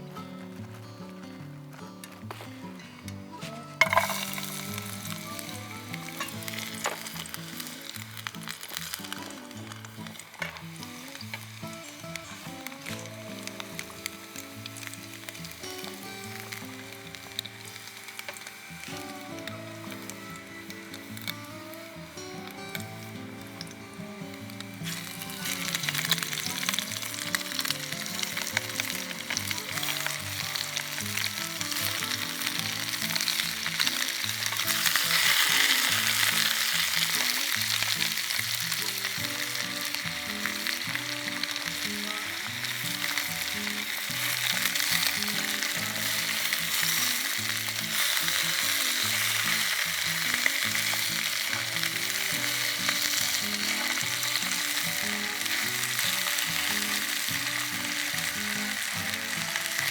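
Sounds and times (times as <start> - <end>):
background music: 0.0 - 59.9
food sizzling in a pan: 0.0 - 59.9.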